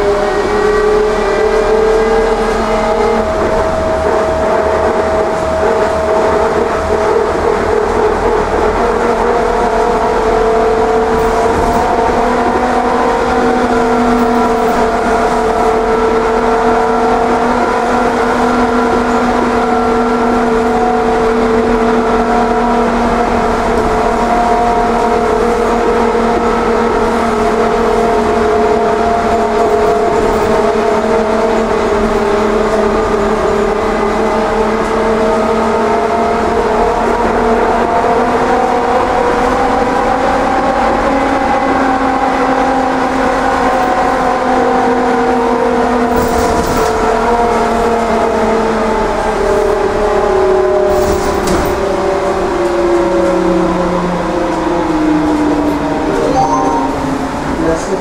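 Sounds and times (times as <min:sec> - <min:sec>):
trolleybus electric whine: 0:00.0 - 0:58.0.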